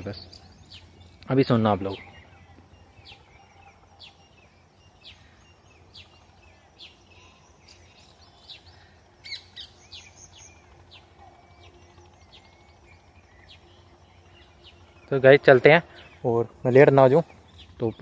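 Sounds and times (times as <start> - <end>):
birds chirping: 0.0 - 18.0
distant road traffic hum: 0.0 - 18.0.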